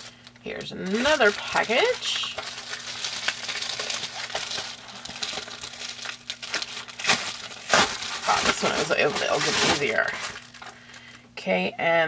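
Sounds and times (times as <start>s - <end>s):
mailer crinkling and tearing: 0.0s - 11.1s.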